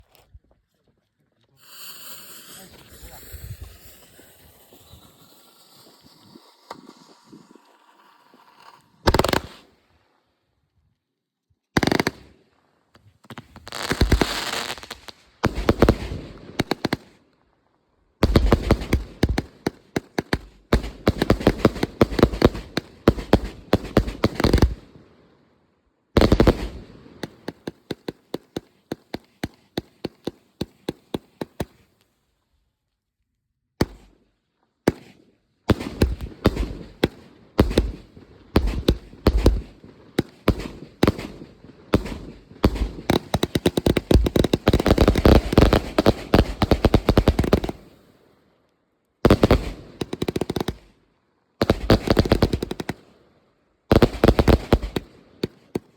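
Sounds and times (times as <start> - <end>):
fireworks popping and crackling: 1.6 - 9.8, 11.8 - 17.2, 18.2 - 24.9, 26.2 - 31.9, 33.8 - 34.1, 34.9 - 48.0, 49.2 - 51.0, 51.6 - 53.1, 53.9 - 55.9.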